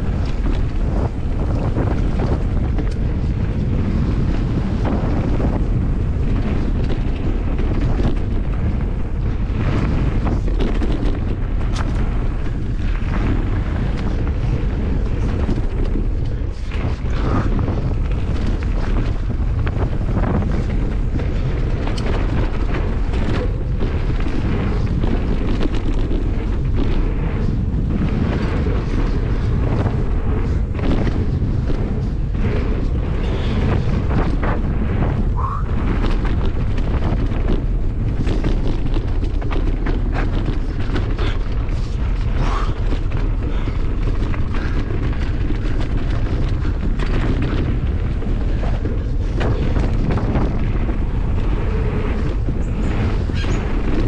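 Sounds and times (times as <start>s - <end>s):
bike knocks and rattles: 0.0s - 54.0s
wind buffeting microphone: 0.0s - 54.0s.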